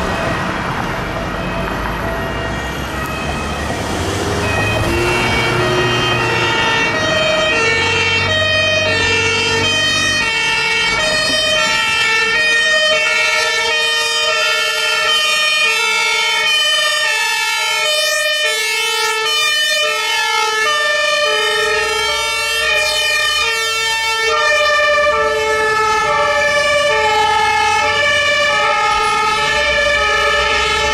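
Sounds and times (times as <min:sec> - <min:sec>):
truck engine rumbling: 0:00.0 - 0:30.9
two-tone sirens: 0:00.0 - 0:30.9.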